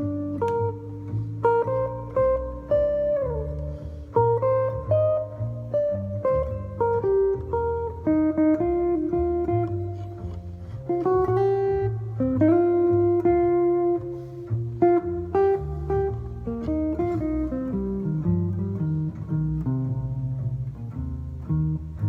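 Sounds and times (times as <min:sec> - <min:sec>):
solo guitar chord-melody playing: 0:00.0 - 0:22.0.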